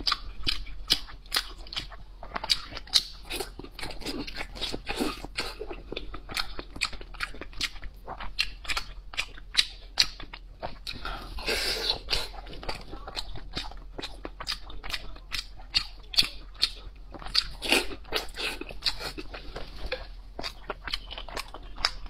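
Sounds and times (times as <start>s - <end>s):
close chewing with mouth clicks: 0.0s - 22.0s.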